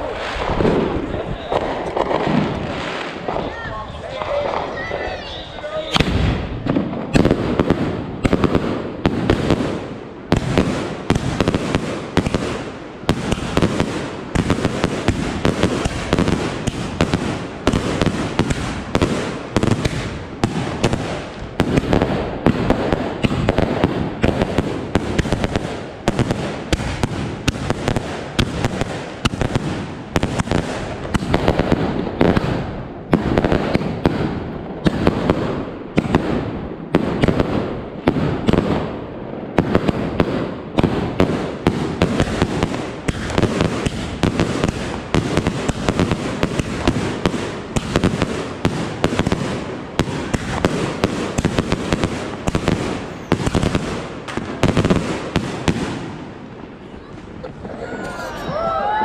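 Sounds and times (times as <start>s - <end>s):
firework bangs: 0.0s - 59.0s.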